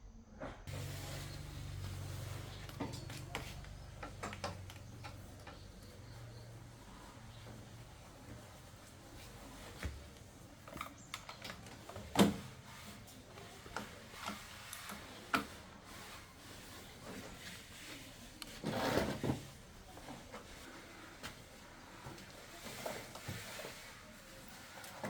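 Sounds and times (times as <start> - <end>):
scraping rustle: 0.7 - 25.0.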